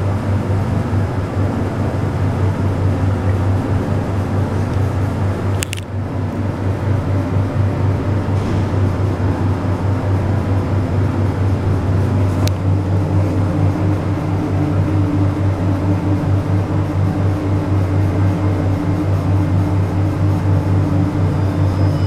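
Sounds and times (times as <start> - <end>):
lift car low hum: 0.0 - 22.0.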